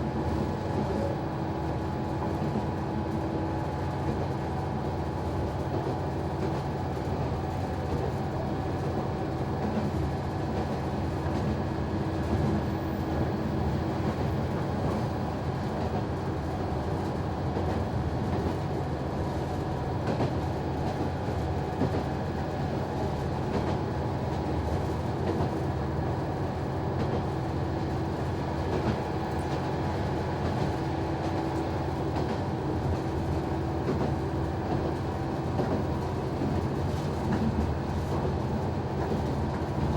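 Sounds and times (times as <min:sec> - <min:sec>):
diesel railcar engine drone: 0:00.0 - 0:39.9.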